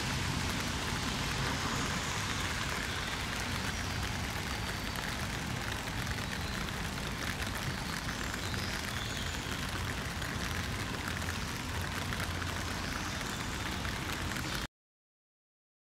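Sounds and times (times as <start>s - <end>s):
rain falling on pavement: 0.0s - 14.7s.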